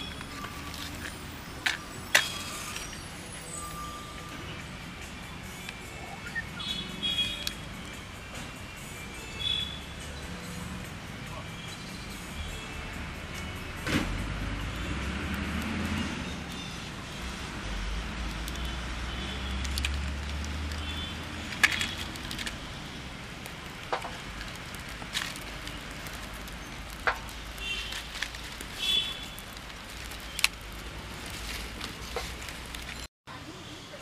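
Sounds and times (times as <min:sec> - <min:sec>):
fire snapping and crackling: 0:00.0 - 0:07.8, 0:13.0 - 0:33.1.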